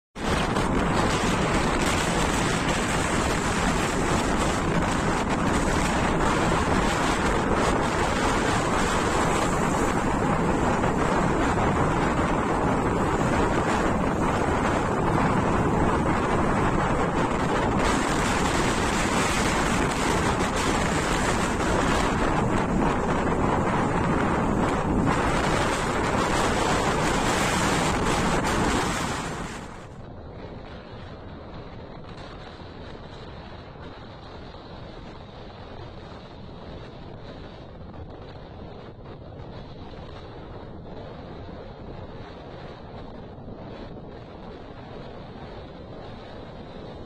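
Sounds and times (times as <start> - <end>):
wind on microphone: 0.2 - 47.0.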